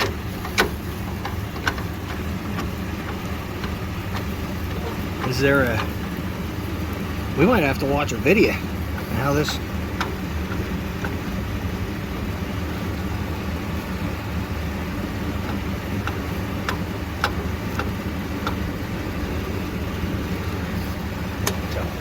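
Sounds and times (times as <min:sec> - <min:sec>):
pickup truck engine idling: 0:00.0 - 0:22.0.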